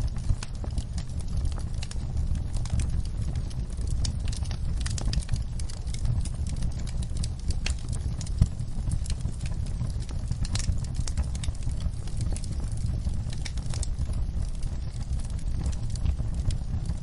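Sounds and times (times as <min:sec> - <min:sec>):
flames rumbling: 0:00.0 - 0:17.0
wood fire crackling: 0:00.0 - 0:17.0.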